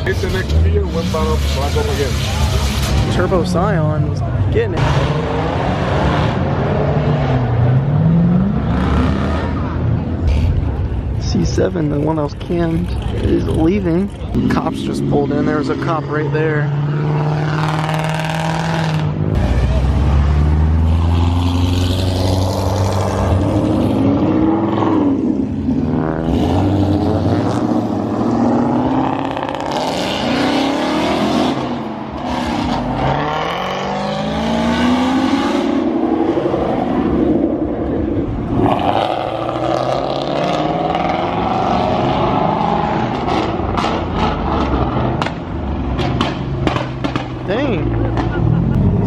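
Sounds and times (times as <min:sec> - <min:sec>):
car engines revving past: 0:00.0 - 0:11.2, 0:12.8 - 0:49.0.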